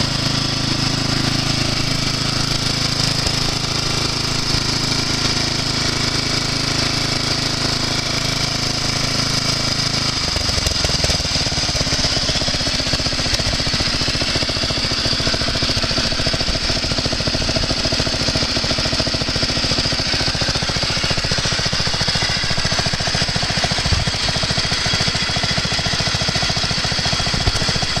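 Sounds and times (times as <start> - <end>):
lawn tractor engine chugging: 0.0 - 28.0.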